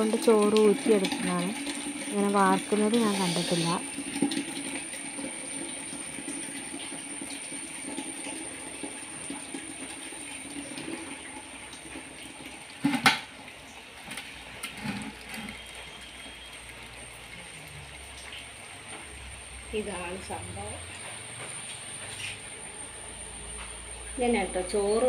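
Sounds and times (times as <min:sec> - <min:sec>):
water pouring from pot: 0:00.0 - 0:25.0.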